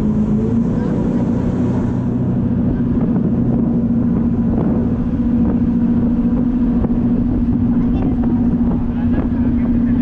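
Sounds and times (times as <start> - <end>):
boat engines droning: 0.0 - 10.0.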